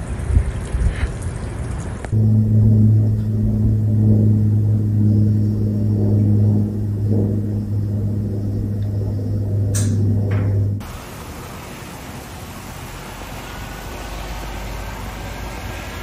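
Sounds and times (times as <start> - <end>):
vehicle engine humming: 2.0 - 16.0.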